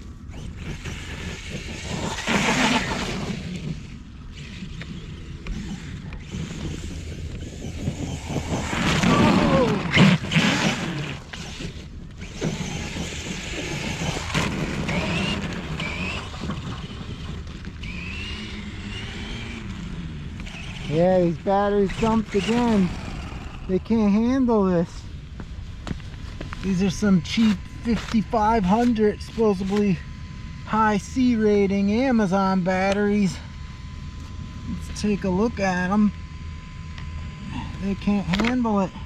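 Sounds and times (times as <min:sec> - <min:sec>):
rc truck electric motor whining: 0:00.0 - 0:39.0
tires churning through snow: 0:00.0 - 0:39.0.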